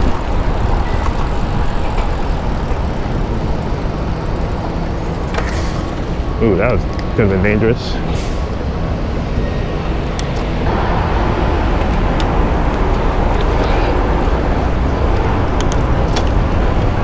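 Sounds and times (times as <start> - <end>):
wind rushing over microphone: 0.0 - 5.2, 8.0 - 17.0
road and traffic noise: 0.0 - 17.0.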